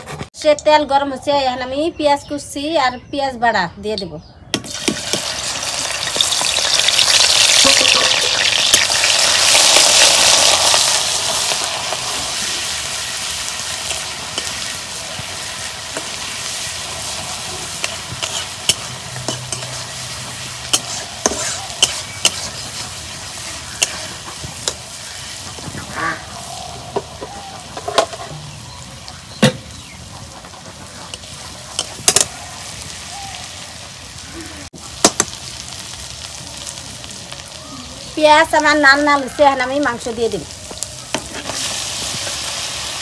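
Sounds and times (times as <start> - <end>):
onion sizzling in oil: 4.6 - 43.0.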